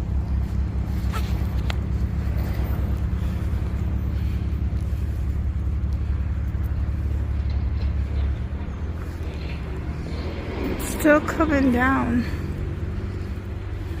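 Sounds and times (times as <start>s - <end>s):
slow traffic engine rumble: 0.0s - 14.0s.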